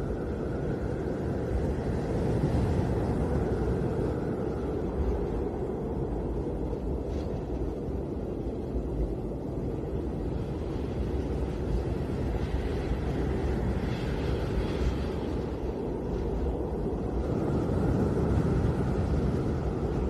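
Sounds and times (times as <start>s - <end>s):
snowstorm wind blowing: 0.0s - 20.0s.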